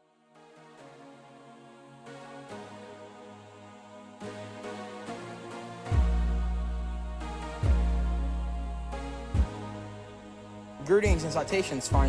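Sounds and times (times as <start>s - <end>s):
background music with held chords: 0.0s - 12.0s.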